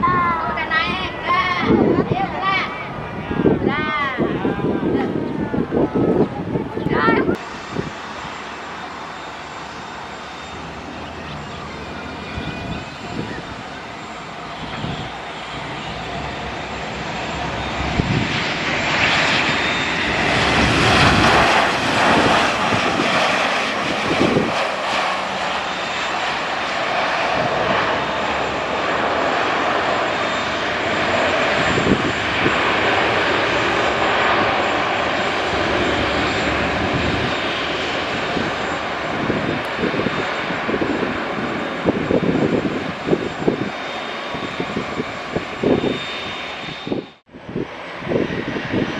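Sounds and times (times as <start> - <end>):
airplane engines running: 0.0 - 48.9.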